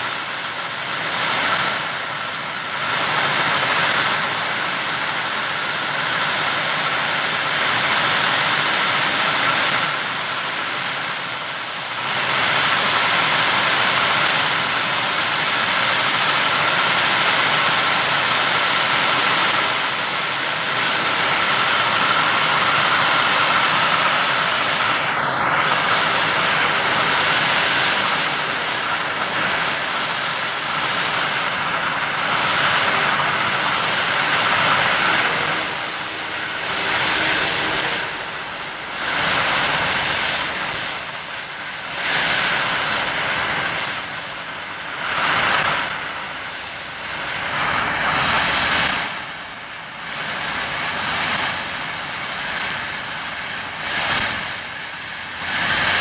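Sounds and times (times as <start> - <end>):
blowtorch flame hissing: 0.0 - 56.0.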